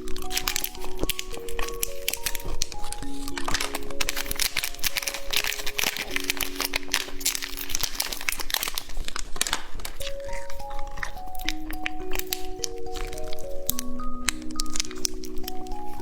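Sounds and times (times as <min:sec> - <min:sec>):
plastic wrappers crinkling: 0:00.0 - 0:16.0
slow held-note music: 0:00.0 - 0:16.0.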